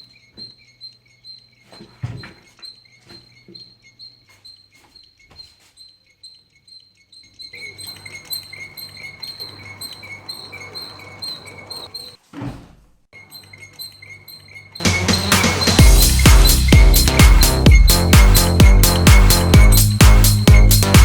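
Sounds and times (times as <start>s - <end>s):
high-pitched squeaks: 0.0s - 12.2s, 13.2s - 21.0s.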